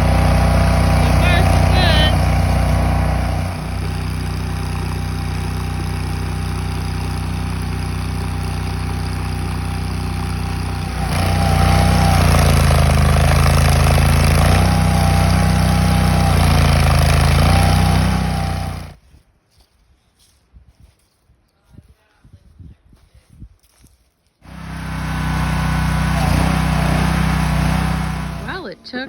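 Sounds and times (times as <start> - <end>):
trencher engine running: 0.0 - 19.0, 24.4 - 29.0.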